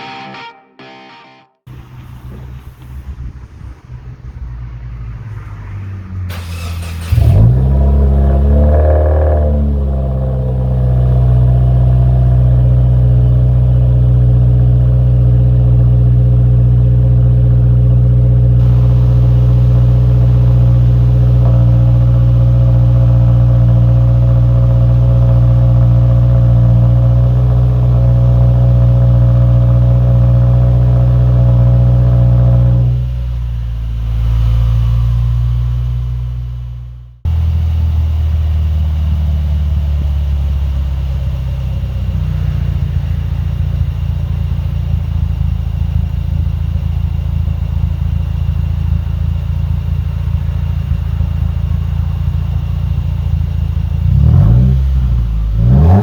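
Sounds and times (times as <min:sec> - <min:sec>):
car engine starting and idling: 0:01.7 - 0:56.0.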